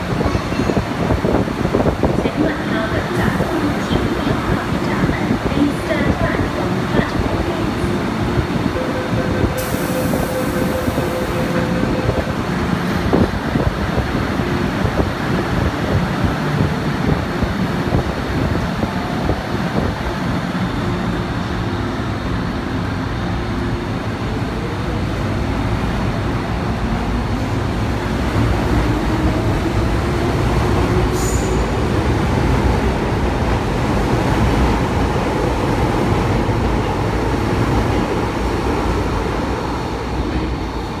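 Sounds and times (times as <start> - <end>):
rumble of train wheels: 0.0 - 41.0.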